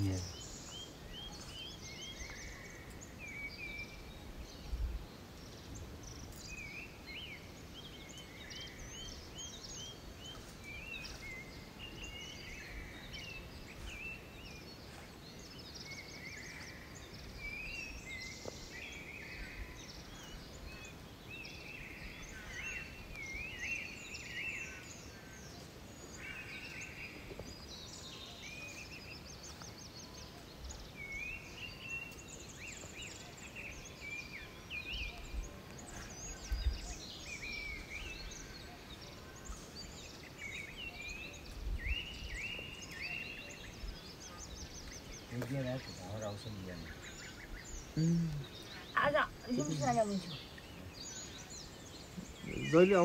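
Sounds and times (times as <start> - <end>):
faint background noise: 0.0 - 53.0
songbirds chirping: 0.0 - 53.0.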